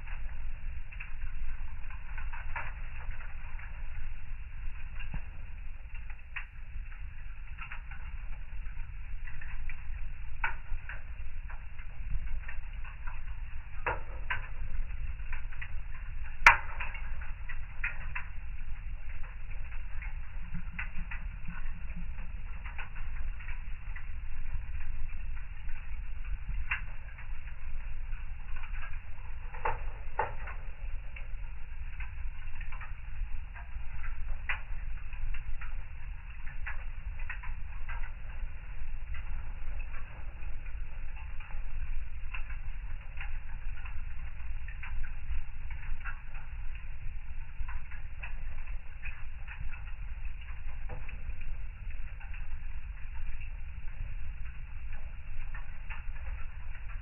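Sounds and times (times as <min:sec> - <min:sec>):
fire crackling: 0:00.0 - 0:57.0
fire rumbling: 0:00.0 - 0:57.0
wood fire popping: 0:00.0 - 0:57.0.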